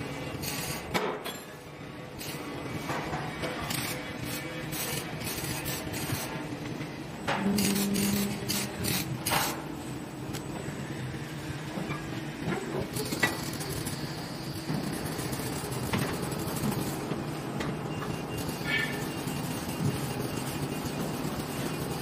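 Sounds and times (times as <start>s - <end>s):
factory machinery noise: 0.0s - 22.0s.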